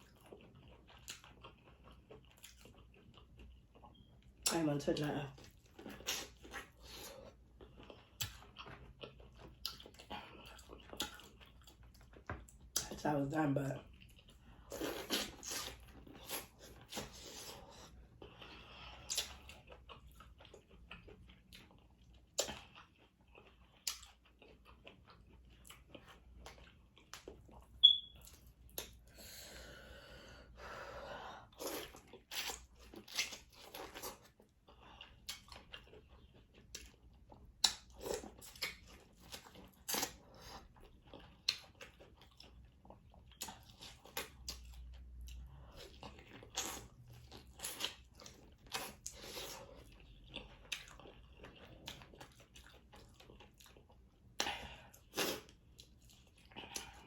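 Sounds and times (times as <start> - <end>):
person chewing and biting: 5.4 - 12.9, 13.9 - 29.0, 31.5 - 57.0.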